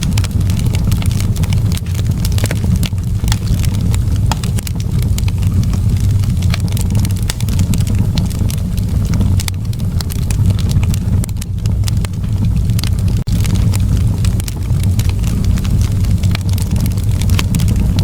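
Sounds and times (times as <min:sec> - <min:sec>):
low rumble: 0:00.0 - 0:18.0
wood fire crackling and popping: 0:00.0 - 0:18.0.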